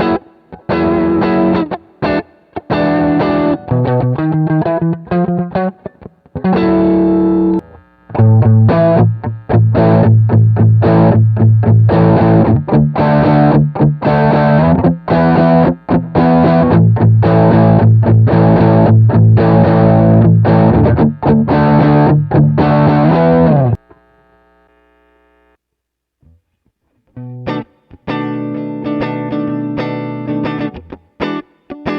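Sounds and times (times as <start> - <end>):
distorted electric guitar riff: 0.0 - 25.5, 27.2 - 31.9.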